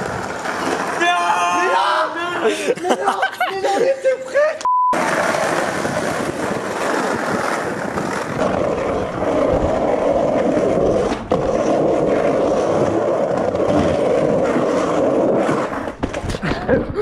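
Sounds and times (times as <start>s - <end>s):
skateboard wheels rolling on pavement: 0.0s - 2.6s, 3.7s - 17.0s.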